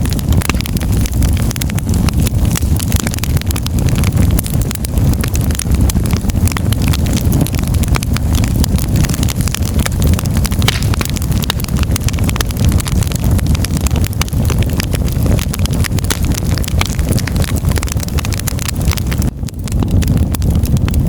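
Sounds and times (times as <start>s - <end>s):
firewood crackling and popping: 0.0s - 21.0s
low rumble of flames: 0.0s - 21.0s.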